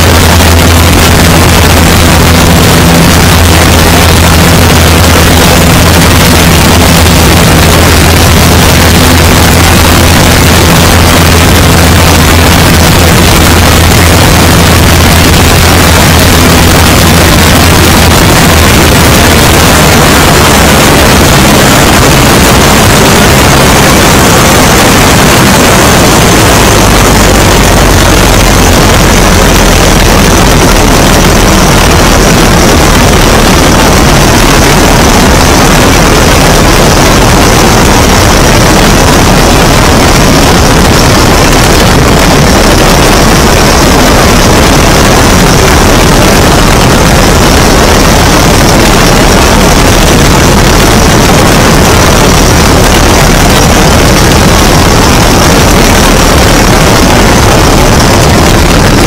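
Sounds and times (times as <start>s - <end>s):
propeller plane engine running: 0.0s - 59.0s
wind rushing on microphone: 0.0s - 59.0s.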